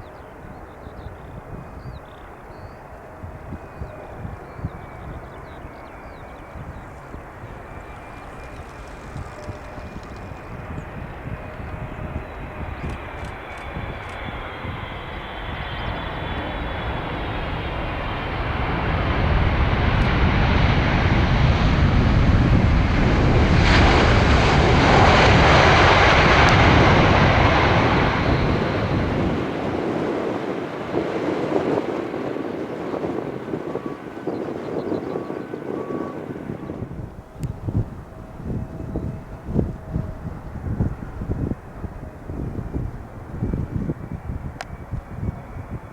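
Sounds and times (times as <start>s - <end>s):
jet aircraft passing by: 0.0s - 45.9s.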